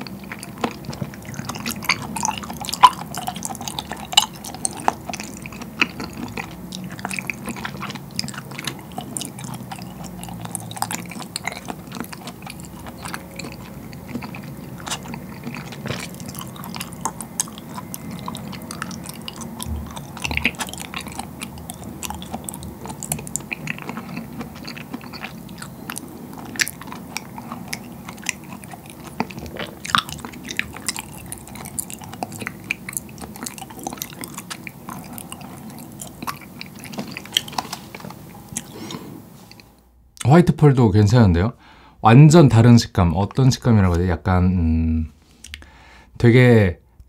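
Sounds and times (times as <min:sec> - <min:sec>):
chewing with wet mouth clicks: 0:00.0 - 0:40.3, 0:45.4 - 0:45.7.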